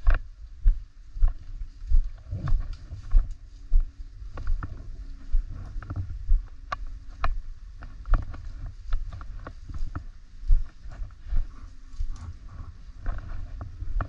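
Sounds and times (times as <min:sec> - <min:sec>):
footsteps in leafy undergrowth: 0:01.2 - 0:14.0.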